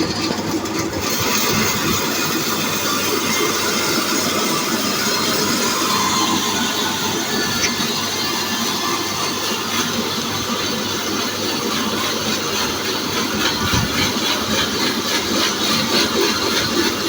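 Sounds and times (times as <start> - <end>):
band saw cutting a log: 0.0 - 17.0.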